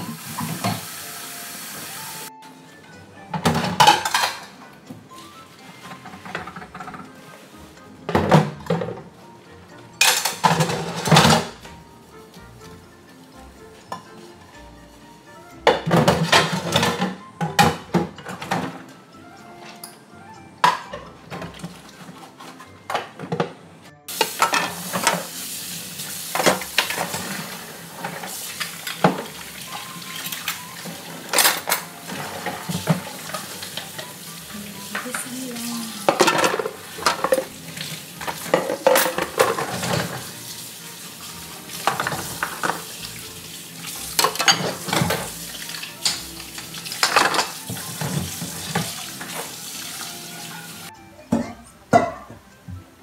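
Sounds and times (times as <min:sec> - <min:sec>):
metal bowls and utensils clattering: 0:00.0 - 0:00.9, 0:03.2 - 0:09.2, 0:09.9 - 0:11.8, 0:13.6 - 0:14.7, 0:15.6 - 0:19.0, 0:20.6 - 0:25.3, 0:26.3 - 0:40.5, 0:41.2 - 0:52.4.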